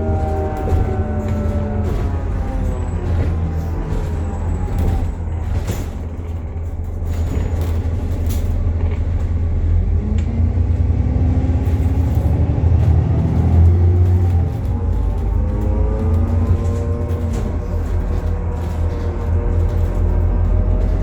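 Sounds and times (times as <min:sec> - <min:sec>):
bus axle whine: 0:00.0 - 0:21.0
bus engine and road rumble: 0:00.0 - 0:21.0.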